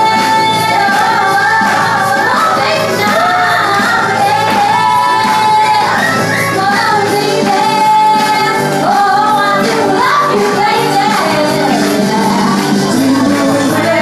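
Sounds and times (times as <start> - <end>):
instrumental accompaniment: 0.0 - 14.0
woman singing: 0.0 - 14.0.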